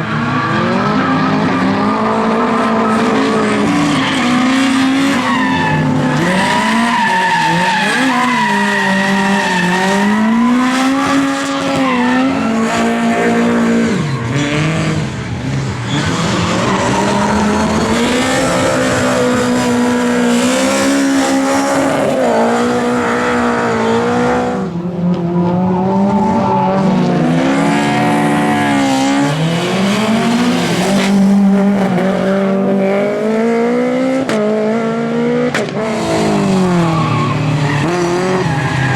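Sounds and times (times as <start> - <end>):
race car engines accelerating: 0.0 - 38.9.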